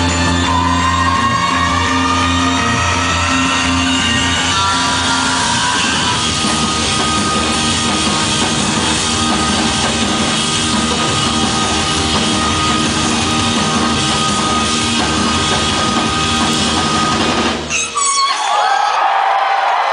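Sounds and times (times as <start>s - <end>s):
live electronic rock band: 0.0s - 18.8s.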